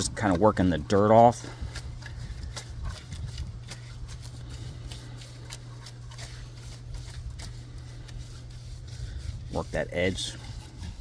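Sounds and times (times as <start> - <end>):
brush scrubbing wet metal wheel: 0.0 - 11.0
steady low hum: 0.0 - 11.0.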